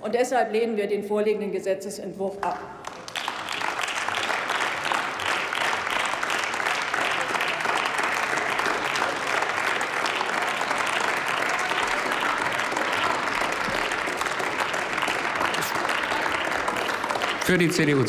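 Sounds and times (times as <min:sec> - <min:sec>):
crowd applauding: 0:02.8 - 0:18.0.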